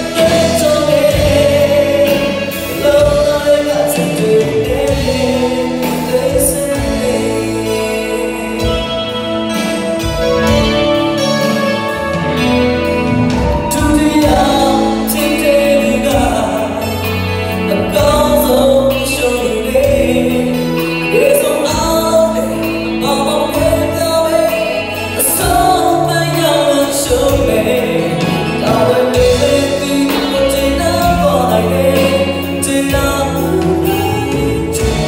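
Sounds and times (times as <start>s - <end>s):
man singing into microphone: 0.0s - 9.6s, 13.5s - 35.0s
drum kit: 0.0s - 35.0s
live band music: 0.0s - 35.0s.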